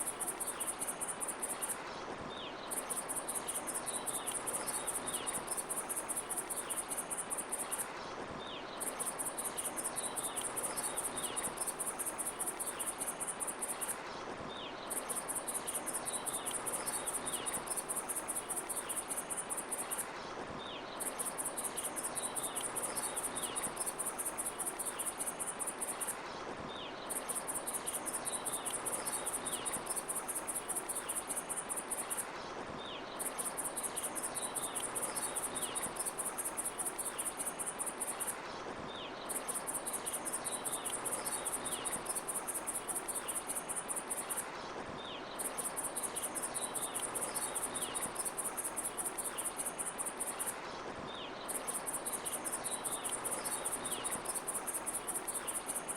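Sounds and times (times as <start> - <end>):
crickets chirping: 0.0 - 7.9, 8.7 - 14.0, 14.6 - 20.0, 20.9 - 26.2, 26.8 - 32.2, 32.8 - 55.9
background hiss: 0.0 - 55.9.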